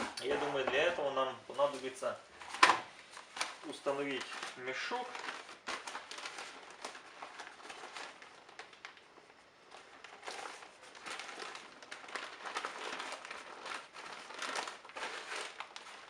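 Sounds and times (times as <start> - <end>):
dust bag rustling and crinkling: 0.0 - 16.0.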